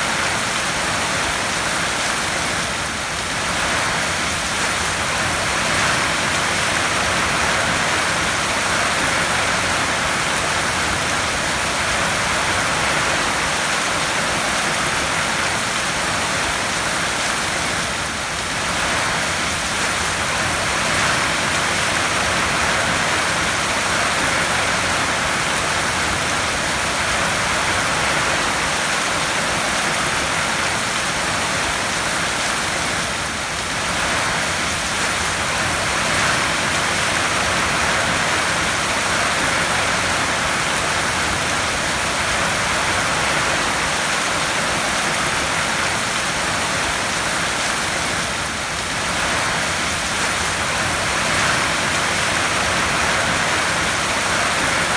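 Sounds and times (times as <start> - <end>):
heavy rain on a tin roof: 0.0 - 54.9.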